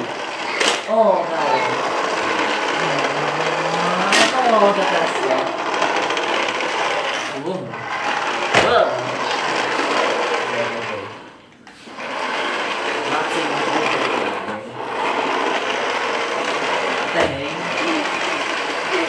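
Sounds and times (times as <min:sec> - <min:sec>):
small electric motor whirring: 0:00.0 - 0:11.3, 0:11.9 - 0:19.0.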